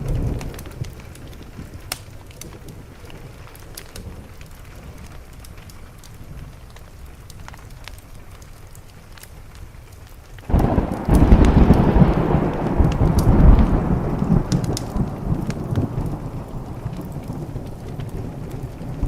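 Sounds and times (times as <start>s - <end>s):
thunderclap and deep rumble: 0.0s - 7.0s, 10.5s - 19.0s
faint crackles: 0.0s - 19.0s
rain: 0.0s - 19.0s.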